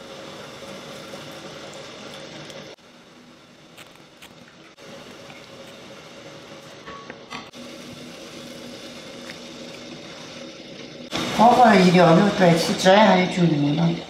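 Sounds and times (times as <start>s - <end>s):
water boiling and bubbling: 0.0s - 14.0s.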